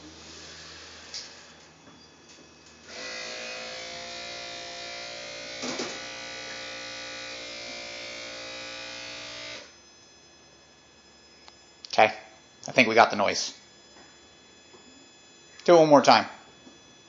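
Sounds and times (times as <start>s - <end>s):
vacuum pump buzzing: 0.0s - 17.0s.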